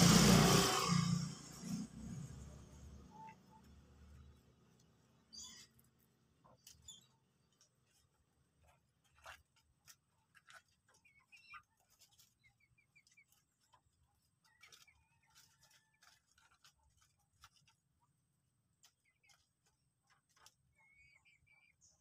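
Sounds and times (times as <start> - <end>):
birds chirping softly: 2.7 - 22.0.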